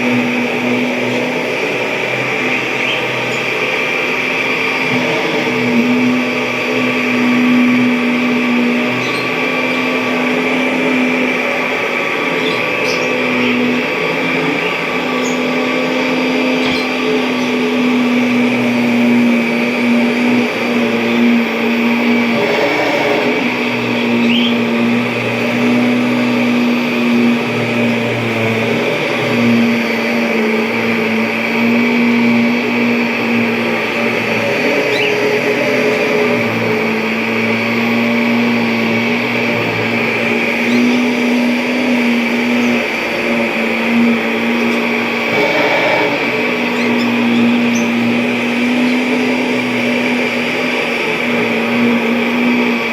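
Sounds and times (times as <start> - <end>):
vacuum cleaner motor hum: 0.0 - 52.9.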